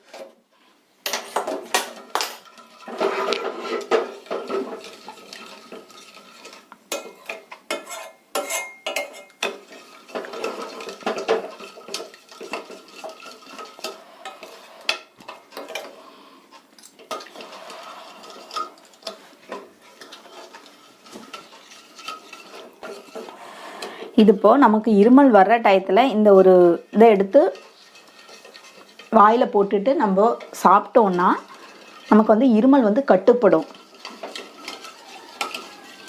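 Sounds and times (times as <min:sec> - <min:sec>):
spoon stirring and scraping a pan: 0:00.0 - 0:36.0.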